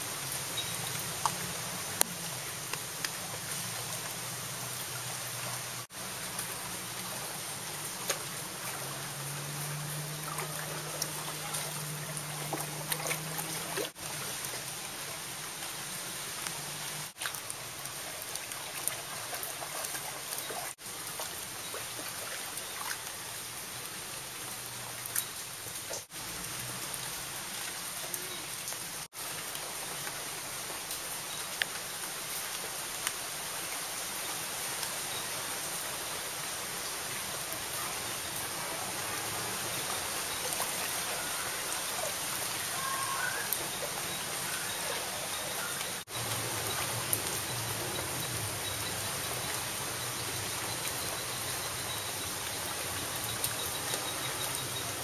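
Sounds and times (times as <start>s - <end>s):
rain falling on standing water: 0.0s - 55.0s
small drips: 0.2s - 36.0s, 36.6s - 55.0s.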